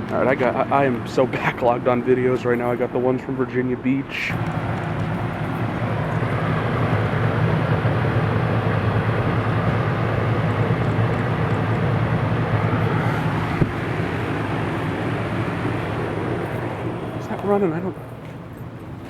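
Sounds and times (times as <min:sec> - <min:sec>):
air conditioner compressor hum: 0:00.0 - 0:19.0
air conditioner fan rushing: 0:00.0 - 0:19.0.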